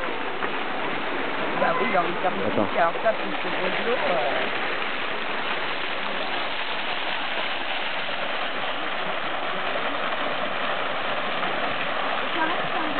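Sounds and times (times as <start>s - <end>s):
waterfall pouring over rocks: 0.0s - 12.9s.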